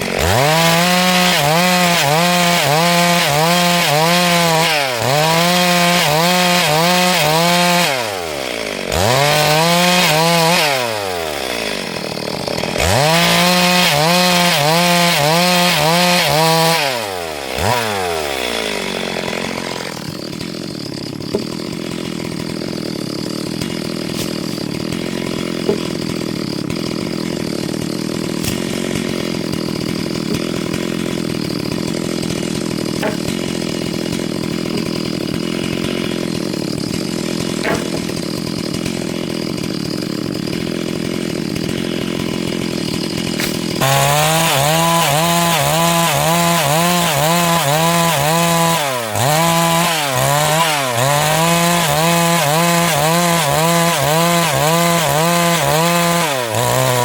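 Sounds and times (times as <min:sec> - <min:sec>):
chainsaw cutting wood: 0:00.0 - 0:57.0
chainsaw idling: 0:00.0 - 0:57.0.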